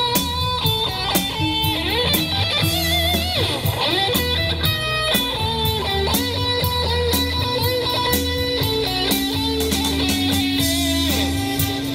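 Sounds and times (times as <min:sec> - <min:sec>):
drum kit: 0:00.0 - 0:11.9
electric guitar melody: 0:00.0 - 0:11.9
keyboard: 0:00.0 - 0:11.9
low bass line: 0:00.0 - 0:11.9.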